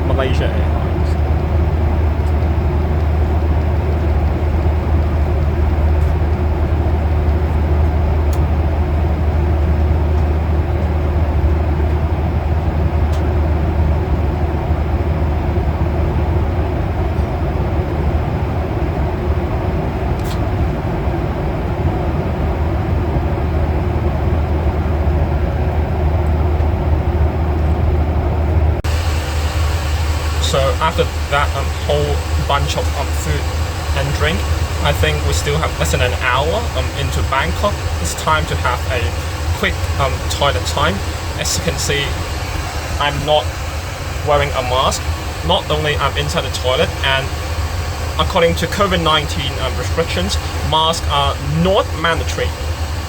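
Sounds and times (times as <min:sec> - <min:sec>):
airflow rush in aircraft cabin: 0:00.0 - 0:53.0
deep engine hum: 0:00.0 - 0:53.0.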